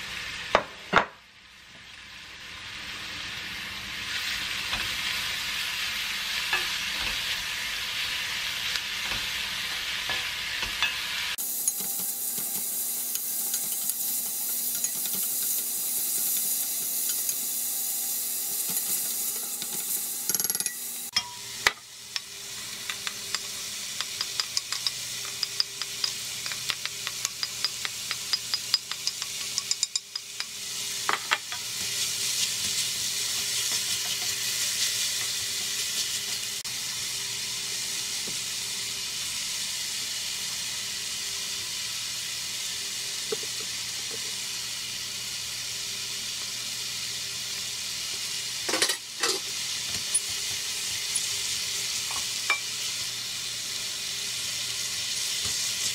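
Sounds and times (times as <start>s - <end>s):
vegetables sizzling in a pot: 0.0s - 55.9s.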